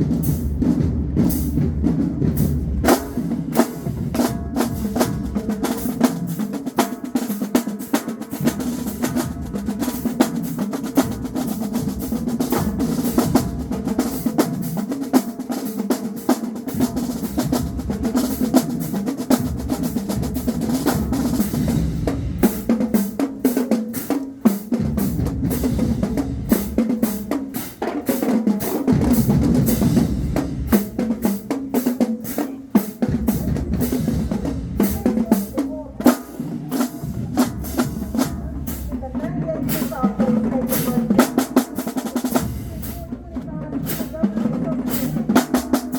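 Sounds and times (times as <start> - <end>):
bass drums: 0.0 - 7.2, 8.3 - 15.1, 16.6 - 31.9, 32.5 - 45.9
snare drum patterns: 0.0 - 45.9.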